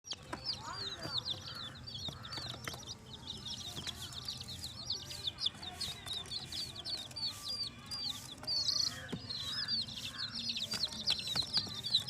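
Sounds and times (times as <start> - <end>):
baby chicks peeping: 0.0 - 12.0.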